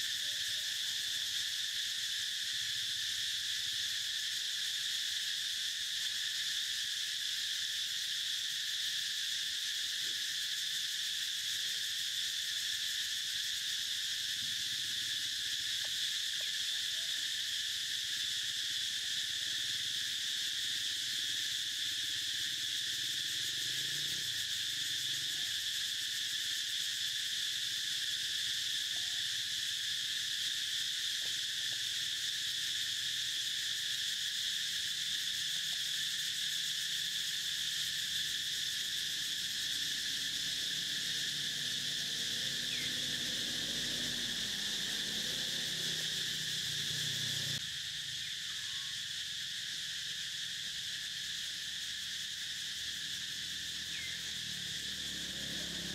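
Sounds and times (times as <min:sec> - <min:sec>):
insects droning: 0:00.0 - 0:55.9.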